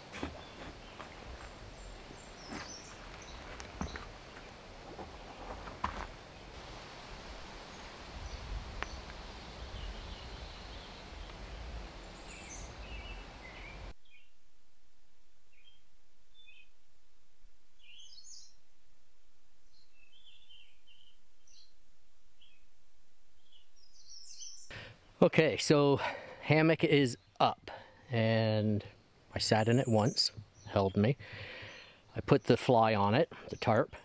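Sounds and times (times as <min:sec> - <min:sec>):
birds chirping: 0:00.0 - 0:06.6, 0:07.6 - 0:14.4, 0:15.5 - 0:16.8, 0:17.8 - 0:18.7, 0:19.6 - 0:22.7, 0:23.3 - 0:34.0.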